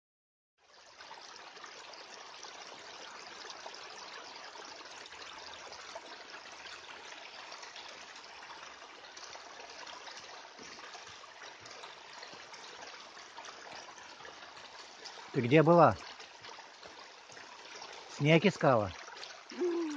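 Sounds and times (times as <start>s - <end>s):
stream trickling over stones: 0.6s - 19.9s.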